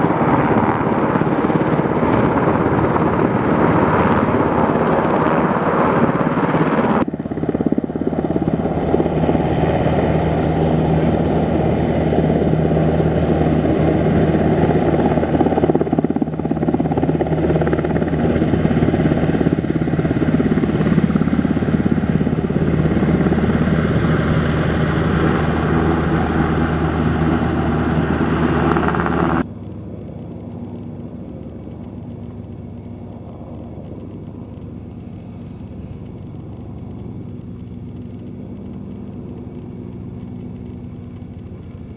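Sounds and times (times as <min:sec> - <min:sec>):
helicopter engines and rotors running: 0:00.0 - 0:41.9.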